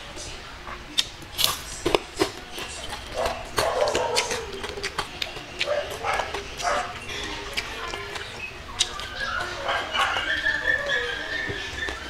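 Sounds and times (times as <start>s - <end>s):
crunching and chewing food: 0.0s - 12.0s
mouth clicks and smacks: 0.9s - 12.0s.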